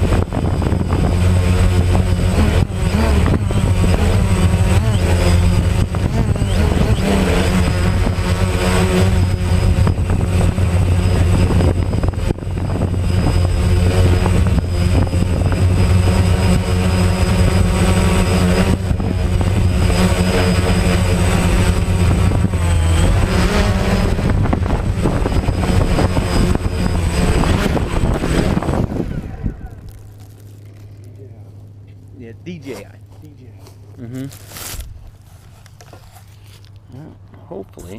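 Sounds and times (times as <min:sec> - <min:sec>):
wind noise: 0:00.0 - 0:30.6
drone motors humming: 0:00.0 - 0:37.9.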